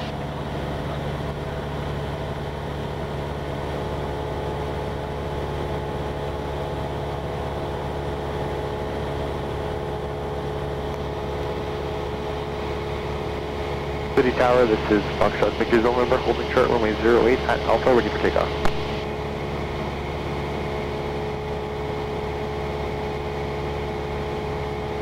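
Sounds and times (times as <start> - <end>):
airplane engine droning: 0.0 - 25.0.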